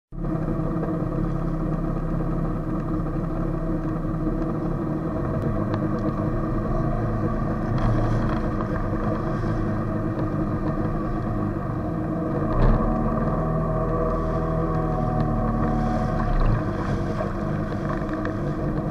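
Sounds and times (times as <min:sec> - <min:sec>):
jet ski engine running: 0:00.2 - 0:18.9.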